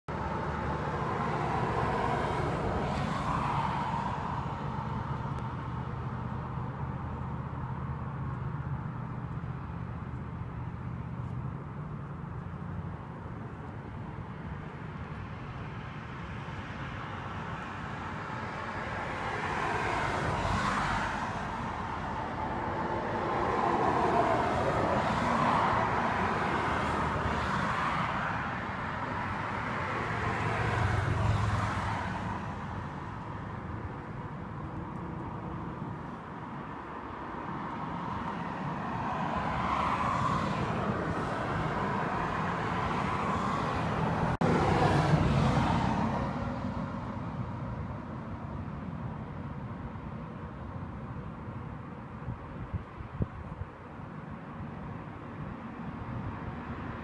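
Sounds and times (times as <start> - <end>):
cars passing by: 0.1 - 57.0.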